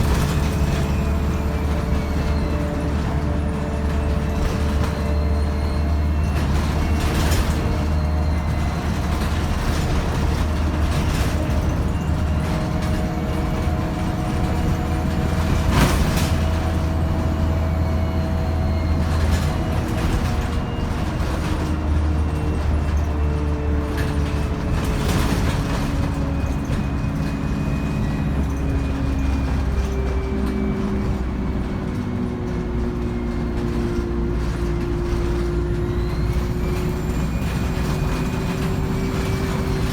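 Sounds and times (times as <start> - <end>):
bus diesel engine drone: 0.0 - 39.9
gearbox and turbo whine: 0.0 - 39.9.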